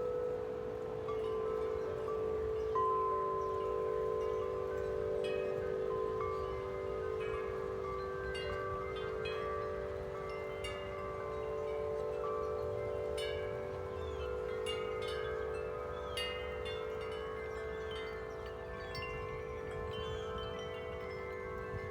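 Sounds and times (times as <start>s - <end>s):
wind chimes ringing: 0.0s - 21.9s.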